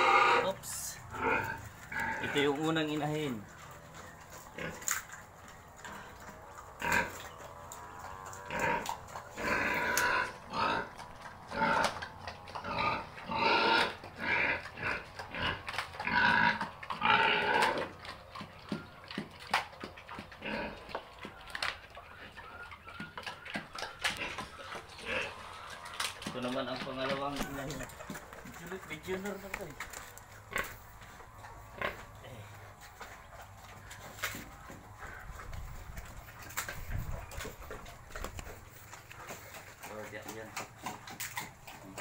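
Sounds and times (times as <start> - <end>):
pig grunting: 0.0 - 42.0
pig chewing clicks and smacks: 0.6 - 42.0.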